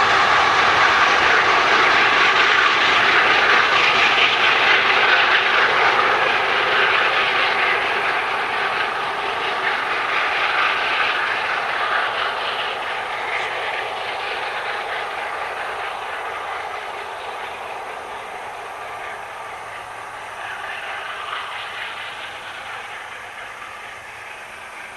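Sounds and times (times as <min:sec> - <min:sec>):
train wheels rushing on rails: 0:00.0 - 0:24.9.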